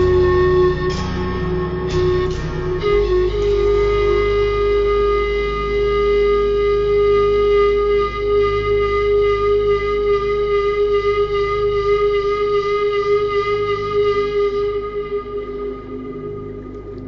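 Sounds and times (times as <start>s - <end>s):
long held music note: 0.0s - 17.0s
soft low musical drone: 0.0s - 17.0s.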